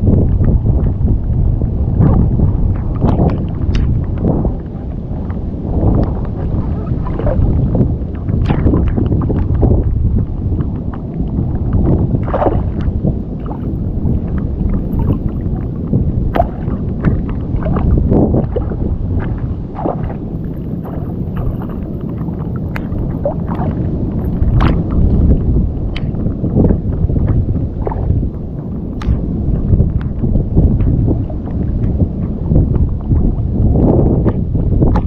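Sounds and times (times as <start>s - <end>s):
wind buffeting microphone: 0.0s - 35.0s
water splashes and knocks: 2.0s - 33.5s, 34.2s - 35.0s.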